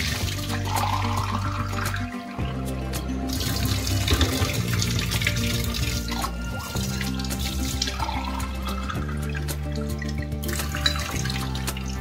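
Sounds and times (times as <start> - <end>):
water spilling into steel sink: 0.0 - 2.5, 3.3 - 12.0
background music with low notes: 0.0 - 12.0.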